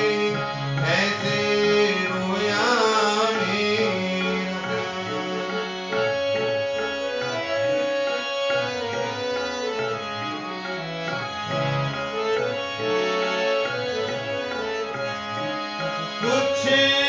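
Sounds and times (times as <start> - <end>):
harmonium melody over chords: 0.0 - 17.0
tabla beat: 0.0 - 17.0.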